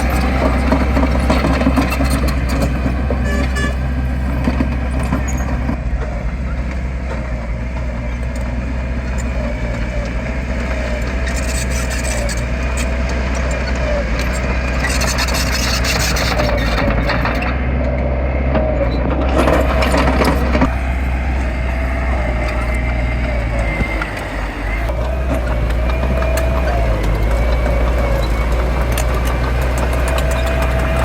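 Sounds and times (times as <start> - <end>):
earthmoving machinery diesel engine: 0.0 - 31.0
rattling and scraping: 0.0 - 31.0.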